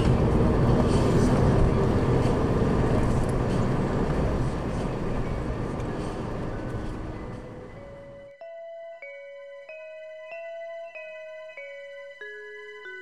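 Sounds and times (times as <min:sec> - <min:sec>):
car interior road and engine noise: 0:00.0 - 0:13.0.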